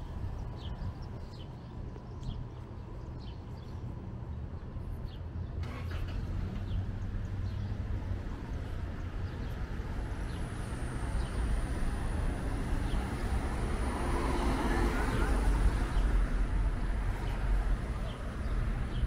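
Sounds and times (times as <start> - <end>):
low rumble of cars: 0.0 - 19.0.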